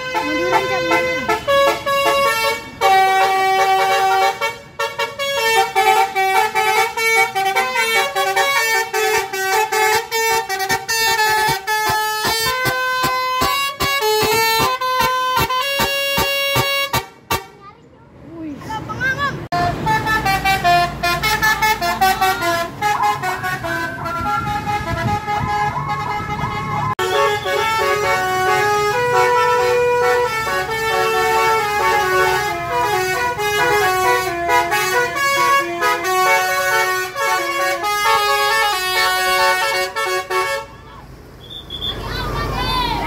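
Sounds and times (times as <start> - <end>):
multi-tone bus horn tune: 0.0 - 17.6, 19.5 - 41.0.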